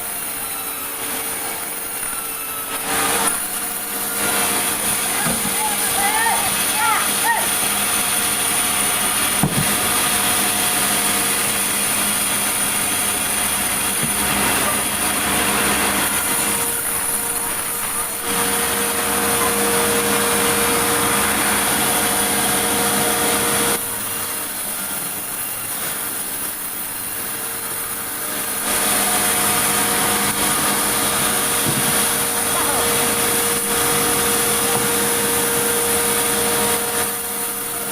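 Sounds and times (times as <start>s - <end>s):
sawmill saw and machinery running: 0.0s - 37.9s.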